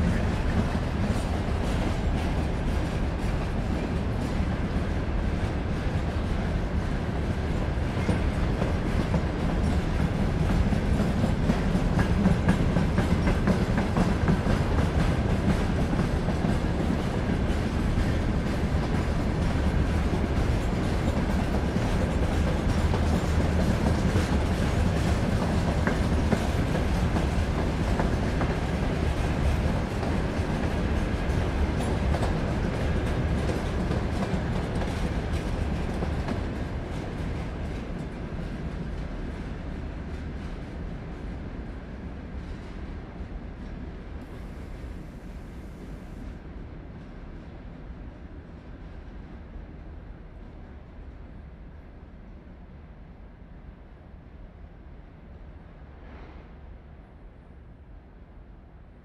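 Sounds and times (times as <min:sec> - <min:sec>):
low train rumble: 0:00.0 - 0:59.0.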